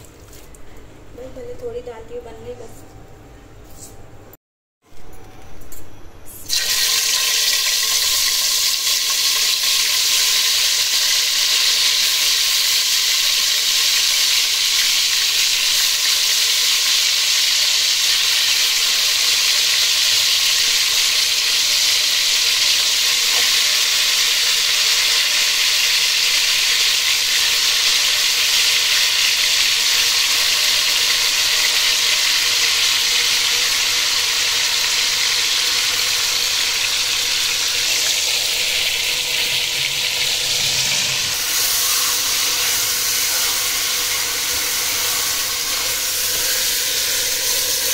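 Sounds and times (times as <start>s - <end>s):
chicken sizzling in hot oil: 6.4s - 47.9s.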